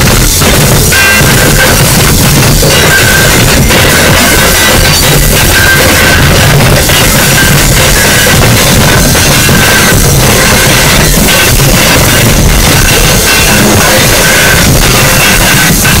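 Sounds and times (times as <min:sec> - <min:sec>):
distorted noise music: 0:00.0 - 0:16.0.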